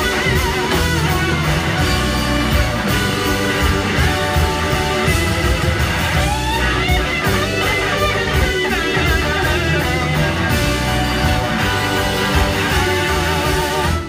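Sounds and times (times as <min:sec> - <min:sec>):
bass guitar: 0:00.0 - 0:14.0
drums: 0:00.0 - 0:14.0
electric guitar solo bending notes: 0:00.0 - 0:14.0.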